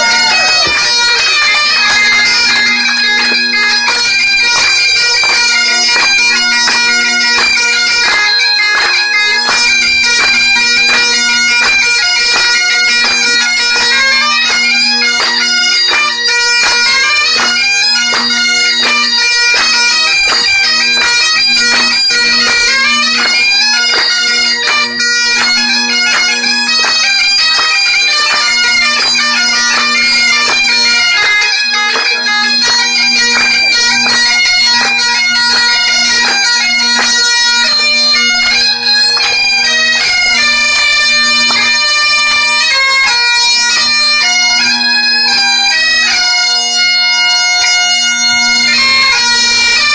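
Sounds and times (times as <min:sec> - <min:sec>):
bagpipes playing a tune: 0:00.0 - 0:49.9.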